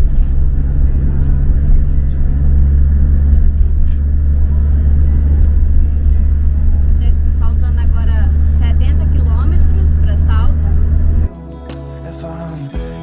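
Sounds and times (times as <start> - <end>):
road noise: 0.0 - 13.0
van engine rumble: 0.0 - 13.0.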